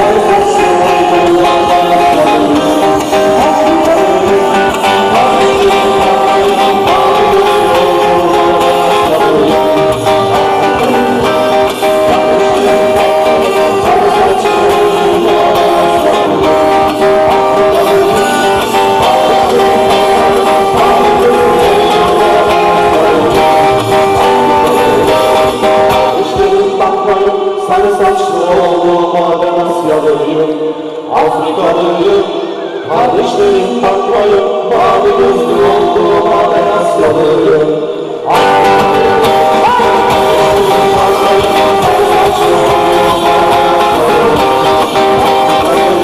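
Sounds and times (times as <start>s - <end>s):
live band with guitar and singing: 0.0s - 46.0s.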